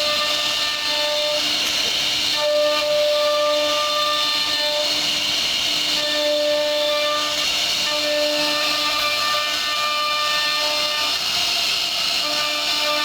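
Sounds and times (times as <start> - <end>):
cnc router spindle whine: 0.0 - 13.0
wood cutting hiss: 0.0 - 13.0.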